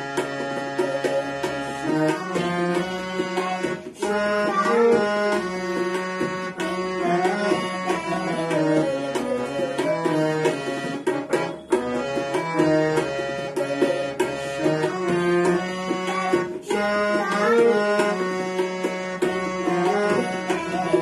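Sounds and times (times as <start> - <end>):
harmonium playing chords: 0.0 - 21.0
tabla strokes: 0.0 - 21.0.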